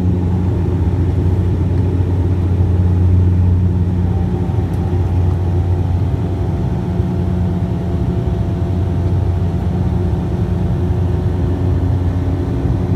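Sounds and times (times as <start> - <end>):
engine drone: 0.0 - 12.9.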